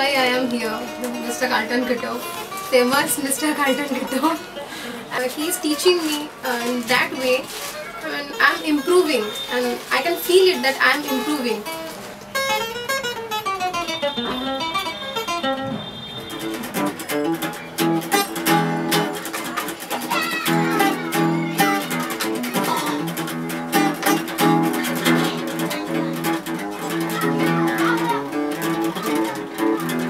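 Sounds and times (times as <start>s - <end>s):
jazz guitar playing: 0.0s - 30.0s.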